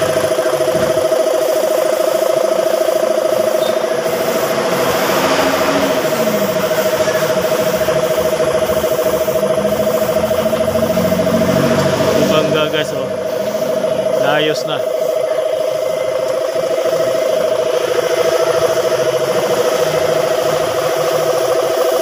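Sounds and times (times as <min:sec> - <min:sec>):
air compressor running: 0:00.0 - 0:22.0.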